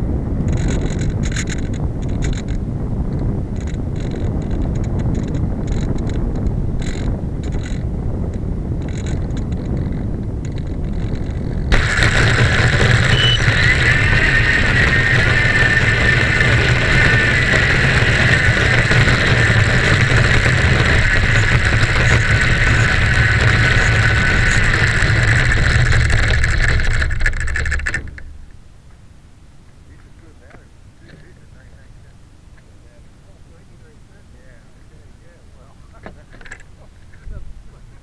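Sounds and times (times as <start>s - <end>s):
model airplane motor and propeller: 0.0s - 28.6s, 29.8s - 38.0s.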